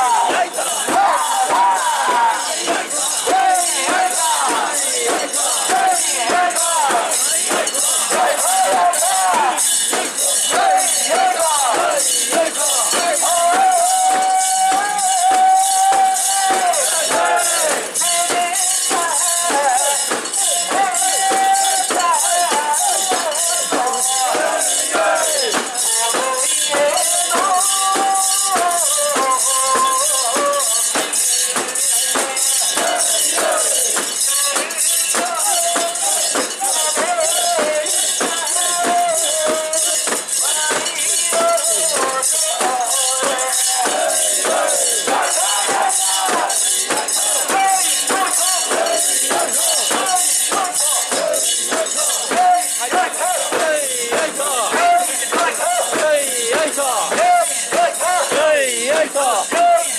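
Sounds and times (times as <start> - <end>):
metal fittings jangling rhythmically: 0.0 - 59.9.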